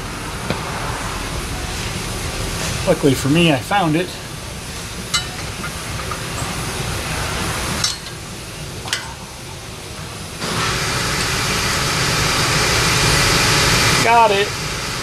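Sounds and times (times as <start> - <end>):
machine noise: 0.0 - 15.0.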